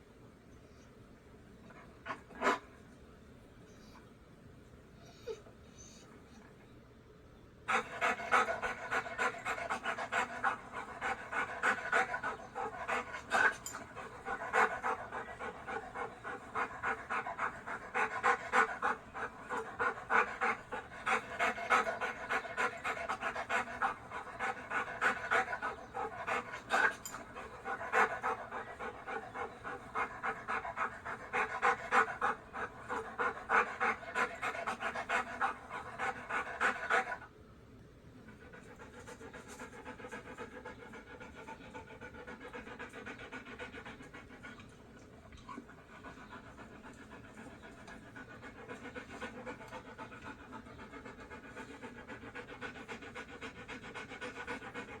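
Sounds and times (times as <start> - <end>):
dog panting: 7.7 - 37.3, 38.2 - 55.0.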